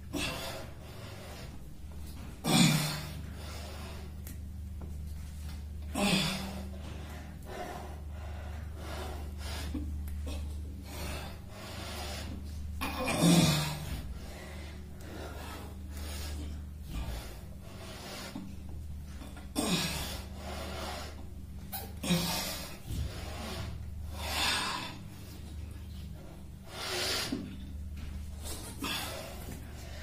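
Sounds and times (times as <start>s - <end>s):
man breathing heavily: 0.0s - 30.0s
steady low hum: 0.0s - 30.0s.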